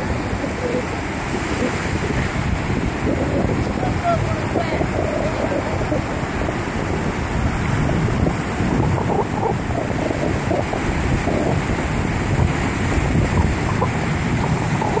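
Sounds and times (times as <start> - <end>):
ocean surf: 0.0 - 15.0
wind on microphone: 0.0 - 15.0.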